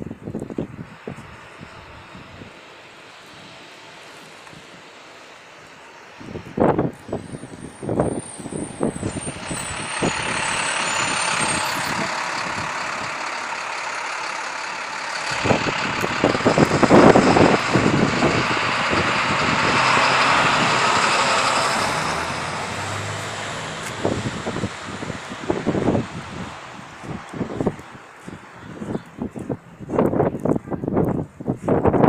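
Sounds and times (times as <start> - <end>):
wind thumping on microphone: 0.0 - 2.6, 6.2 - 13.2, 15.3 - 32.0
heavy vehicle passing: 0.0 - 30.5.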